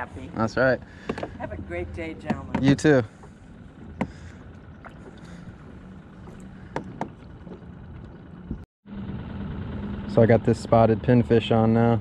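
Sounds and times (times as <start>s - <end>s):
aerator pump humming: 0.0s - 12.0s.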